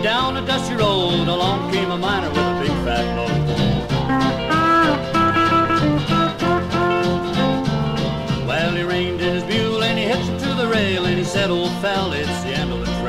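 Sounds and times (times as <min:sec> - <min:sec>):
country band music: 0:00.0 - 0:13.0
sliding guitar notes: 0:00.0 - 0:13.0.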